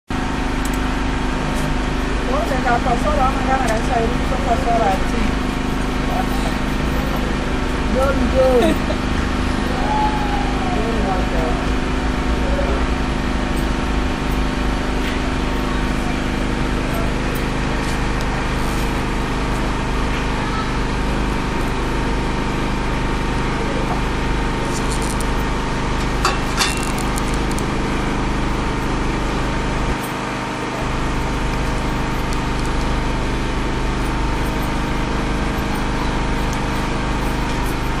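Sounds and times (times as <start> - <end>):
generator engine drone: 0.1 - 38.0.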